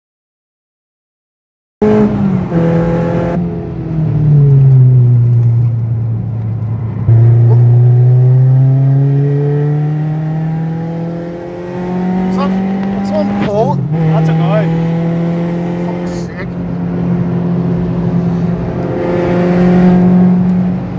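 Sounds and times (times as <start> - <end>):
racing car engine: 1.8 - 20.9.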